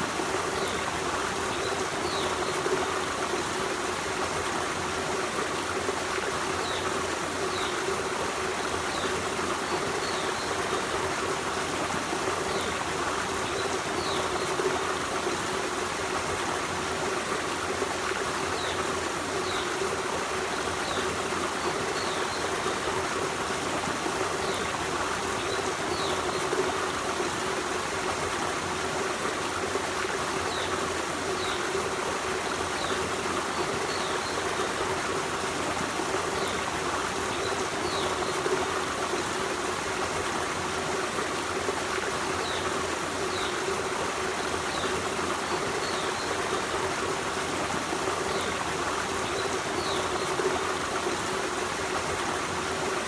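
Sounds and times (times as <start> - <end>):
forest stream running: 0.0 - 53.0.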